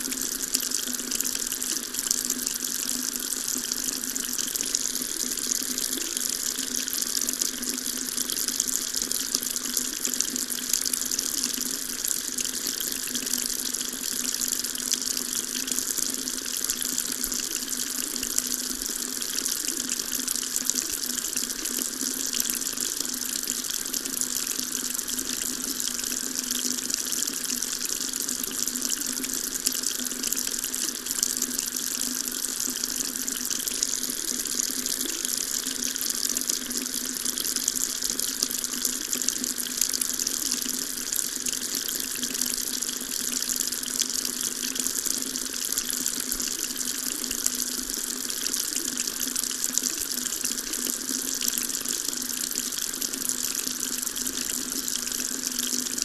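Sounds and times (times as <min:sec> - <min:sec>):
water tap running: 0:00.0 - 0:56.0.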